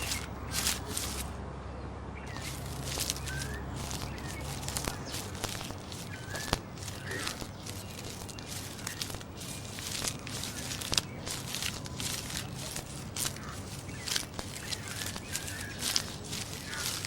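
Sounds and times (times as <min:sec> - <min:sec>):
crunching and crackling: 0:00.0 - 0:01.4, 0:02.3 - 0:17.0.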